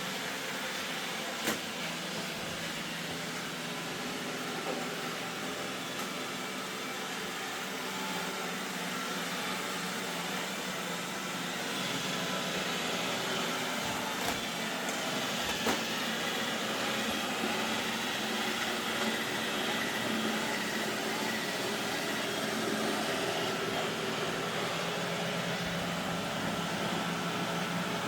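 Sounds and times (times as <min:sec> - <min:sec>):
robot vacuum running: 0:00.2 - 0:28.0.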